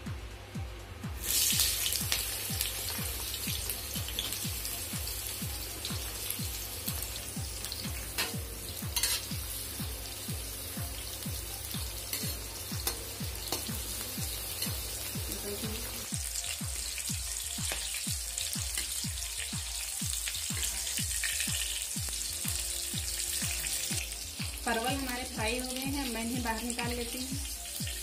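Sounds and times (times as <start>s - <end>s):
vegetables sizzling in hot oil: 1.2s - 28.0s.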